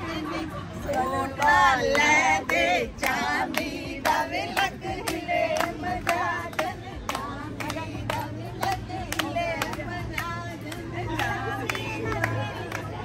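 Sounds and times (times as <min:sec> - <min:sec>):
women singing and chanting: 0:00.0 - 0:13.0
hand clapping: 0:00.8 - 0:13.0.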